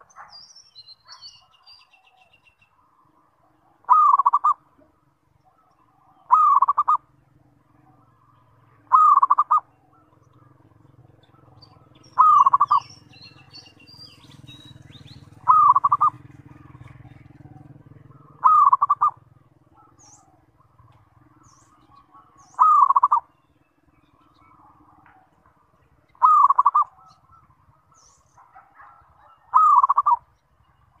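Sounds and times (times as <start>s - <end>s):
dove cooing: 3.4s - 23.4s, 24.0s - 30.4s.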